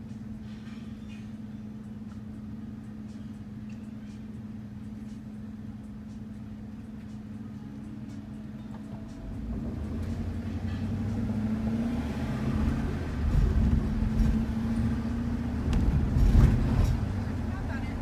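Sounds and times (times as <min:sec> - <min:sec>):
van engine hum: 0:00.0 - 0:18.0
road rumble: 0:00.1 - 0:18.0.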